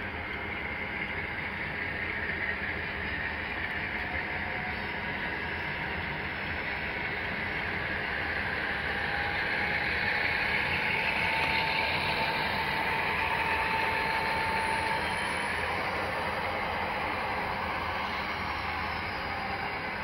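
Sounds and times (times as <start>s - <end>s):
model locomotive motor whine: 0.0s - 20.0s.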